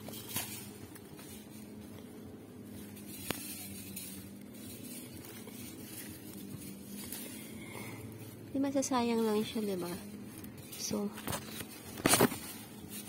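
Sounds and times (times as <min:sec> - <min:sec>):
faint steady hum: 0:00.0 - 0:13.0
leaves and stems rustling: 0:00.0 - 0:13.0.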